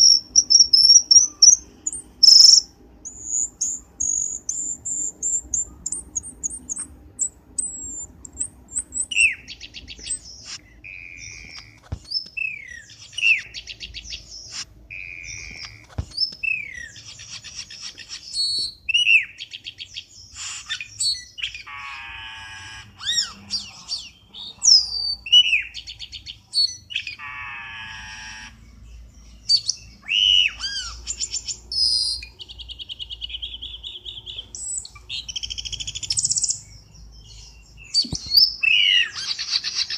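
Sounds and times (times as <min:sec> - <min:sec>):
birds calling with chirps and whistles: 0:00.0 - 0:39.9.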